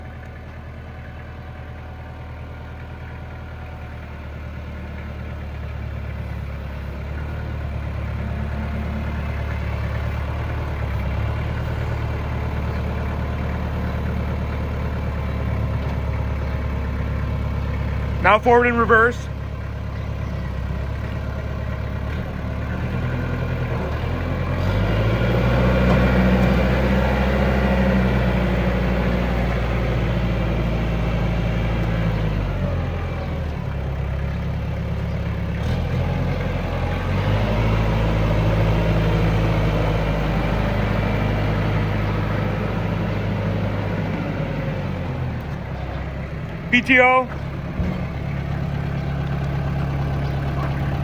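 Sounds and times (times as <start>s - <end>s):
tractor diesel engine revving: 2.0s - 51.0s.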